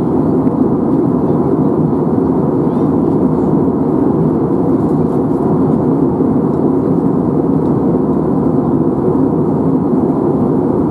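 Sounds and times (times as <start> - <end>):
airplane cabin engine rush: 0.0 - 10.9.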